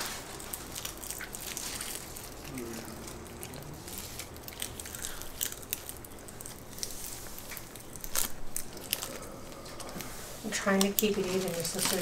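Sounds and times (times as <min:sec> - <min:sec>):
seaweed sheets crackling and crunching: 0:00.0 - 0:12.0.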